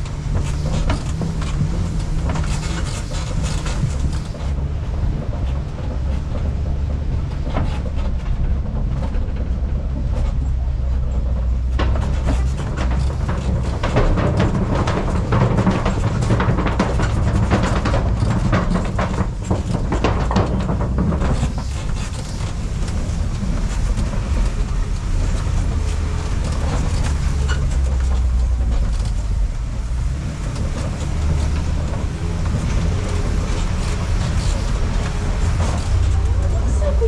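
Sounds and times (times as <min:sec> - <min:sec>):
clattering knocks and rattles: 0:00.0 - 0:37.0
truck engine and tyres rumbling: 0:00.0 - 0:37.0.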